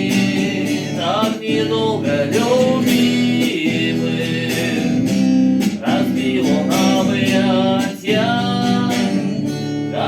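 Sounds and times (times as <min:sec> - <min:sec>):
person singing: 0:00.0 - 0:05.1, 0:05.7 - 0:10.0
acoustic guitar strumming: 0:00.0 - 0:10.0.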